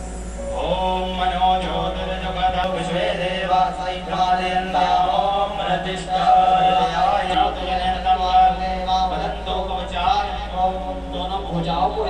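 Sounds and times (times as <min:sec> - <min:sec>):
constant low hum: 0:00.0 - 0:12.0
voice chanting: 0:00.4 - 0:12.0.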